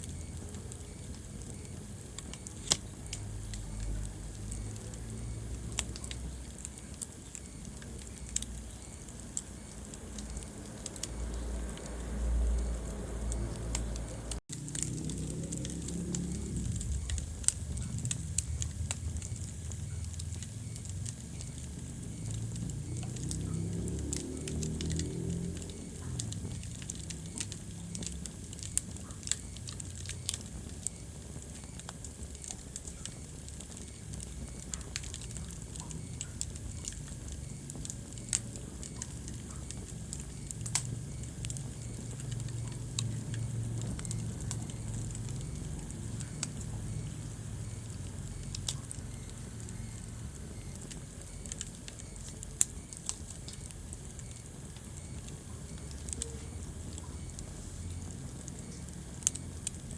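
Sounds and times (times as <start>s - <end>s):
low rumble of flames: 0.0s - 59.9s
sharp pops of fire: 0.0s - 59.9s
wood fire crackling: 0.0s - 59.9s.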